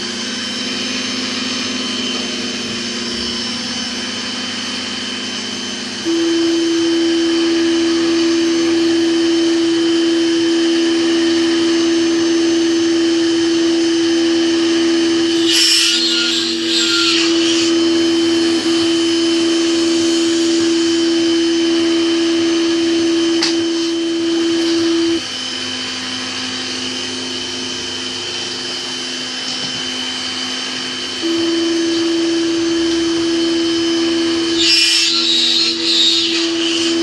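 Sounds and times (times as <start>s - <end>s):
mill spindle motor humming: 0.0s - 37.0s.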